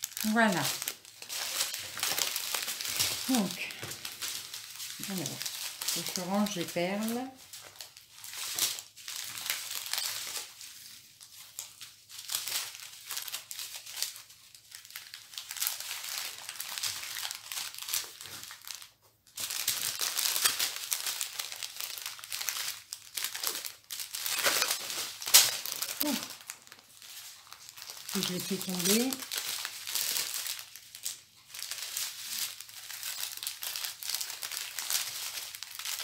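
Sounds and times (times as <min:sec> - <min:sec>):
plastic bags crinkling and rustling: 0:00.0 - 0:36.0.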